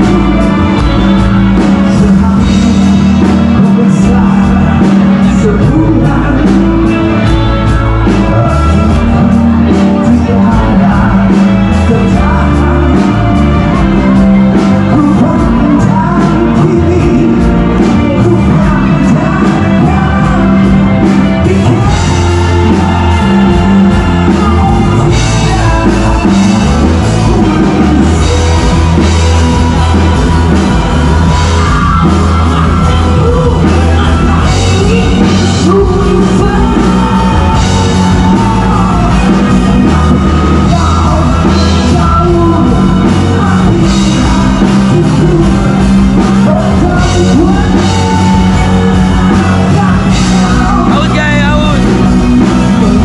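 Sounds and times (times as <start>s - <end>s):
live rock band playing: 0.0s - 53.0s
man singing: 0.0s - 53.0s.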